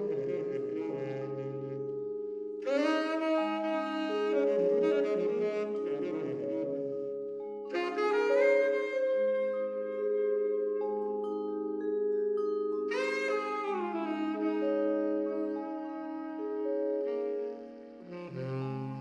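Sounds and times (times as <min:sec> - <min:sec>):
saxophone melody: 0:00.0 - 0:19.0
vibraphone chords: 0:00.0 - 0:19.0.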